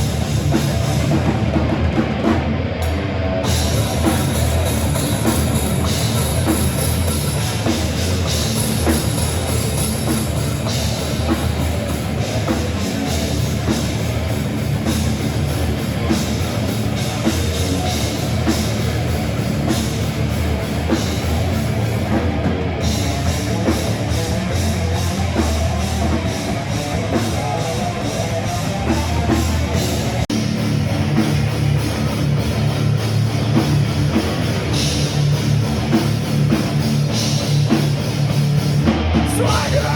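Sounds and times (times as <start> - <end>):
heavy rock music: 0.0 - 39.9
pounding drum kit: 0.0 - 39.9.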